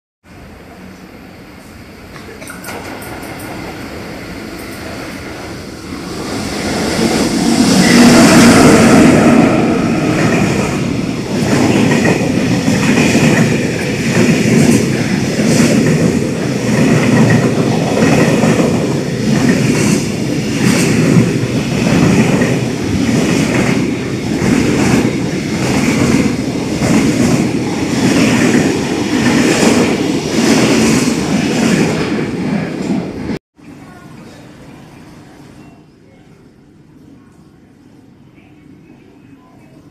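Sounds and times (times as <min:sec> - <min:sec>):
electric locomotive passing: 0:00.3 - 0:37.2.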